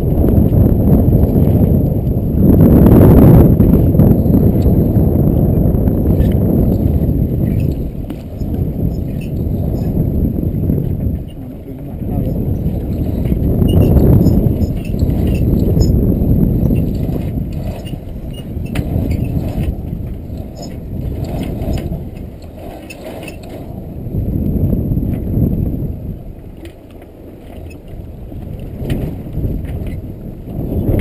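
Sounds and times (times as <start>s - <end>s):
wind and sea rushing: 0.0s - 31.0s.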